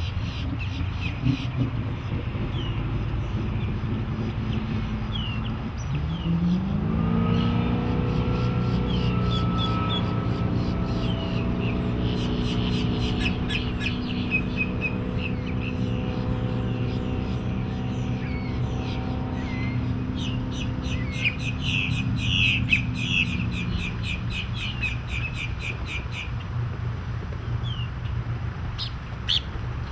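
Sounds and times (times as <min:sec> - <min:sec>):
birds chirping: 0:00.0 - 0:26.6, 0:27.3 - 0:29.9
boat engine humming: 0:00.0 - 0:29.9.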